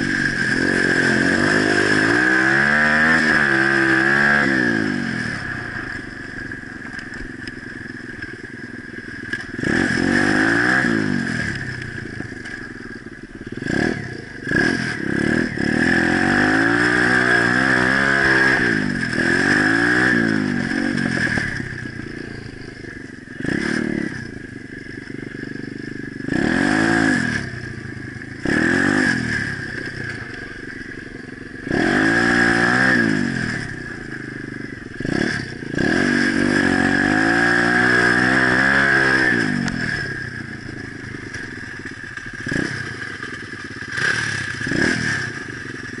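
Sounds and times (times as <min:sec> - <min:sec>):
small motorbike engine revving: 0:00.0 - 0:46.0.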